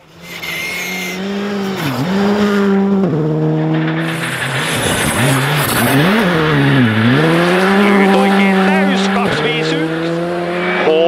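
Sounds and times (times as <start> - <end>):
rally car engine revving hard: 0.0 - 11.0.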